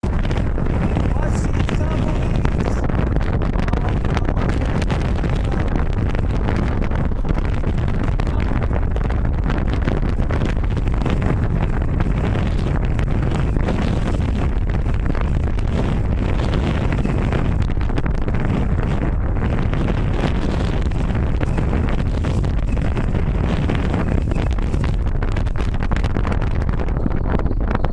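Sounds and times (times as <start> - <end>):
strong wind on microphone: 0.0 - 27.9.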